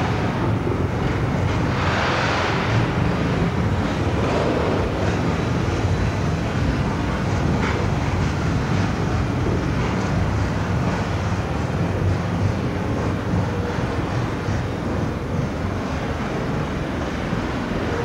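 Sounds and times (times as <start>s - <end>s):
train engines and wheels rumbling: 0.0s - 18.0s.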